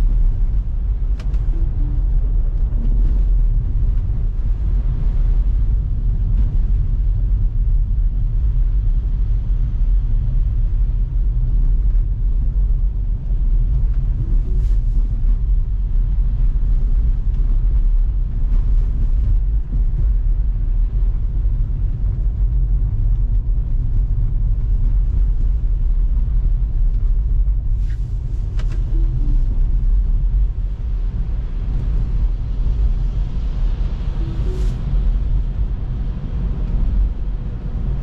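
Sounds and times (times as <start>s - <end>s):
road and tyre rumble: 0.0s - 38.0s.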